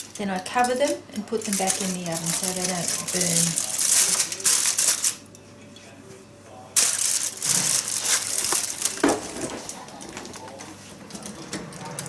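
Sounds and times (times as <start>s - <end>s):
aluminium foil crinkling: 0.0s - 5.3s, 6.8s - 12.0s.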